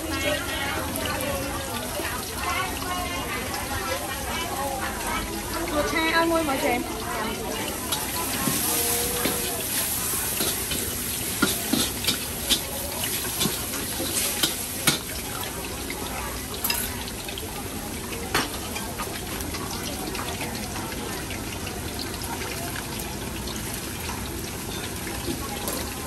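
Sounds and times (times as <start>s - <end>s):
market noise wash: 0.0s - 26.0s.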